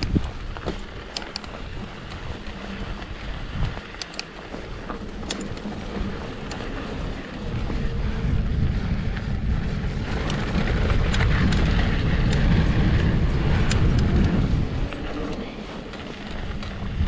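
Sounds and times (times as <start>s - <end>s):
bike clicks and rattles: 0.0s - 17.0s
bike tyre and drivetrain noise: 0.0s - 17.0s
wind buffeting microphone: 0.0s - 17.0s.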